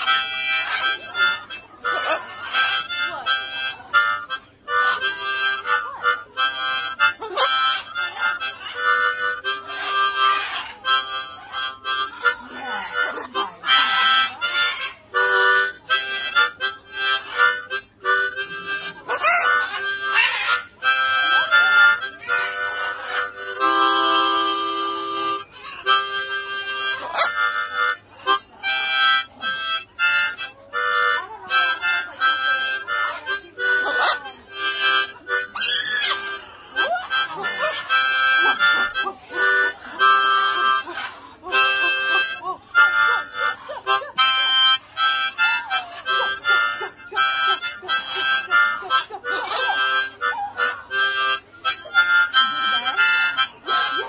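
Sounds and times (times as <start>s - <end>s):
harmonica playing a tune: 0.0s - 54.0s.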